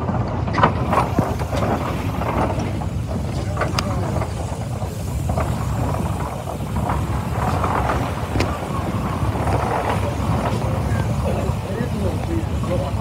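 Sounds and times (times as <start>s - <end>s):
steam engine rumbling: 0.0s - 13.0s.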